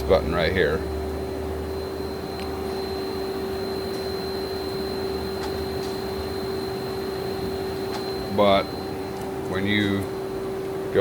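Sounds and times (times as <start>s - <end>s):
steady machine tone: 0.0s - 11.0s
lathe machine humming: 0.8s - 10.9s.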